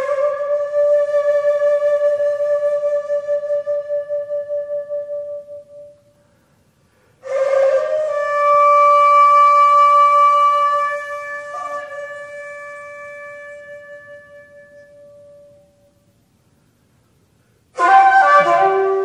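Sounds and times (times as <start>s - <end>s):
breathy bamboo flute notes: 0.0s - 16.0s, 17.4s - 19.0s.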